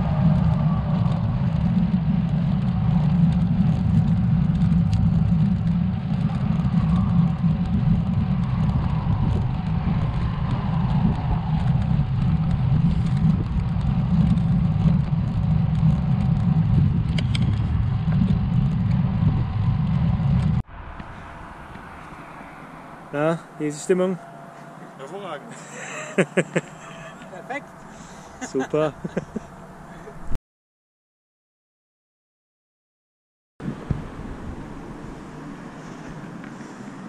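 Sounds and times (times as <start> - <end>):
tyre noise on asphalt: 0.0 - 30.4, 33.6 - 37.0
wind rushing over microphone: 0.0 - 30.4, 33.6 - 37.0.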